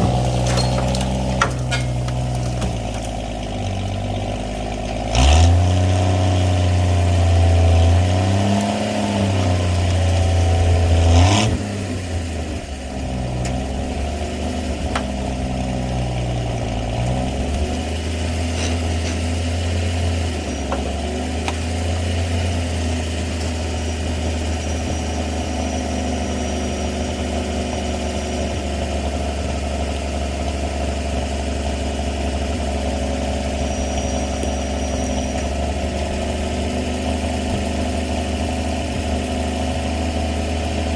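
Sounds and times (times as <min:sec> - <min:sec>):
truck engine revving and idling: 0:00.0 - 0:40.9.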